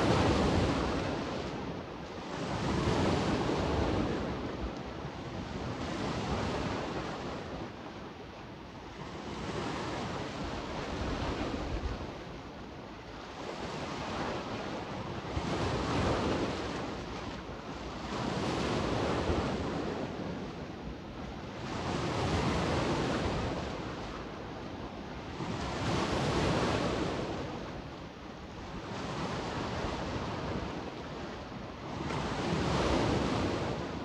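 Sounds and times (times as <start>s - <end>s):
sea waves washing onto shore: 0.0s - 34.0s
wind blowing over microphone: 0.0s - 34.0s.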